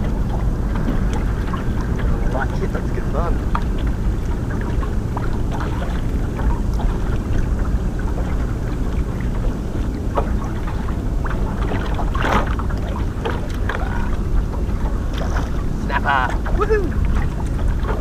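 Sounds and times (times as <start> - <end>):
water slapping against boat hull: 0.0 - 18.0
wind buffeting microphone: 0.0 - 18.0.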